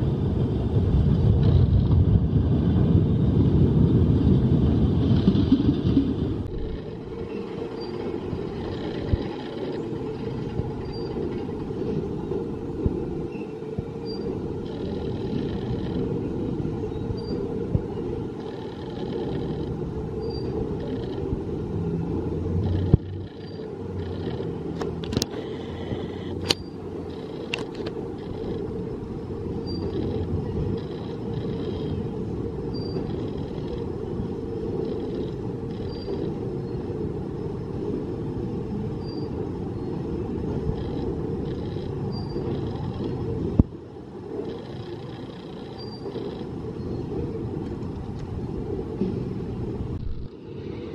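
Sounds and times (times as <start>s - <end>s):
roller coaster rumbling on track: 0.0s - 50.9s.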